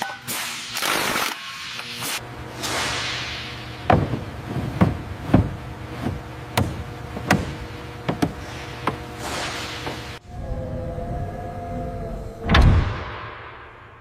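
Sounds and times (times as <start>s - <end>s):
steady low hum: 1.8s - 14.0s.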